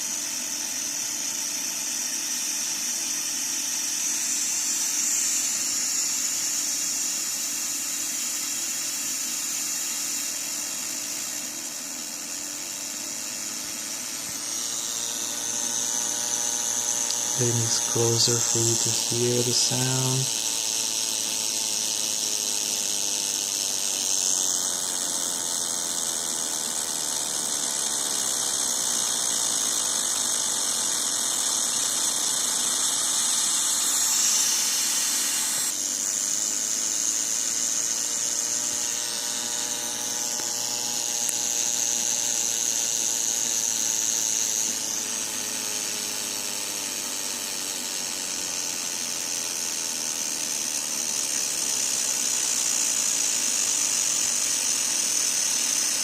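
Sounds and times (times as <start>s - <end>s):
harsh electronic buzz and hiss: 0.0s - 56.0s.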